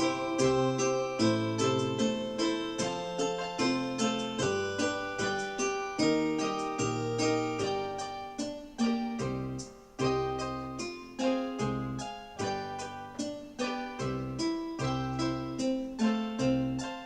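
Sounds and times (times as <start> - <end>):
gentle piano-like keyboard music: 0.0 - 17.0.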